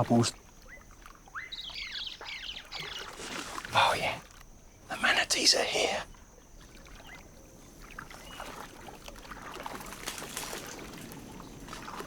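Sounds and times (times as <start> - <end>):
water lapping and trickling: 0.0 - 12.0
small splashes and drips: 0.2 - 4.5, 6.6 - 12.0.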